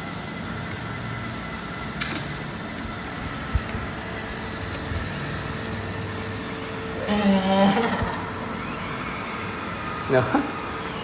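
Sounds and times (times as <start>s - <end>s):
robotic vacuum cleaner humming: 0.0s - 11.0s.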